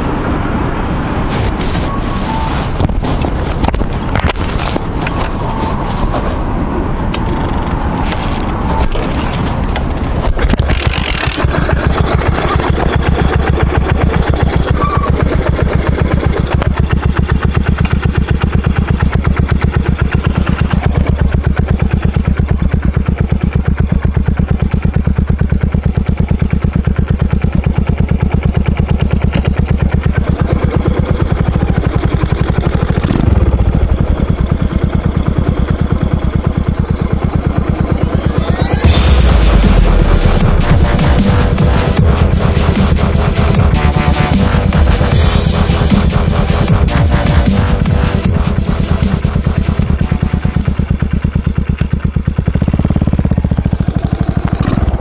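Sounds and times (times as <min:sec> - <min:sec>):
motorcycle engine revving: 0:00.0 - 0:55.0
motorcycle kick-start: 0:07.2 - 0:55.0
motorcycle engine idling: 0:09.6 - 0:55.0.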